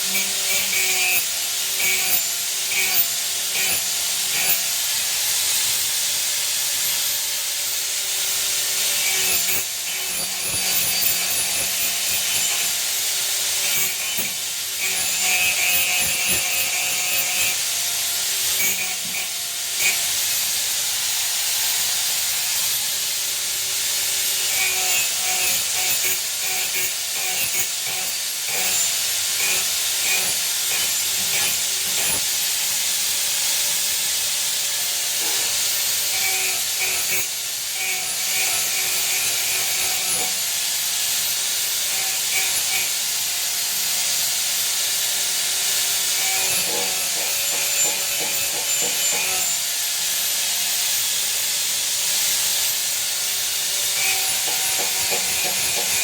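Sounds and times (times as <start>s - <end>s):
metal grinder harsh hiss: 0.0s - 56.0s.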